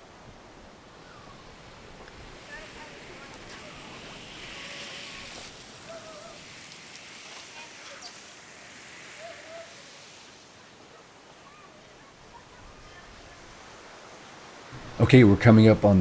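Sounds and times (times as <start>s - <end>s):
ocean surf: 0.0s - 16.0s.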